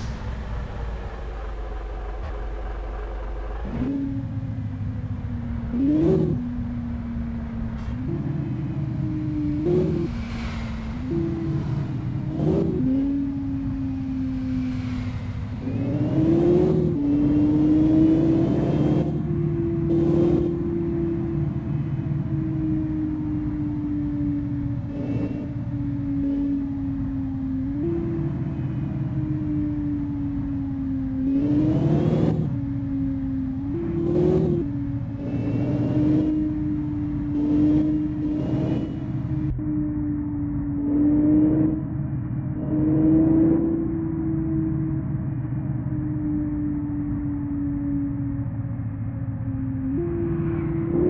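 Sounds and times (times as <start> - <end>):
sports car engine accelerating: 0.0 - 51.0.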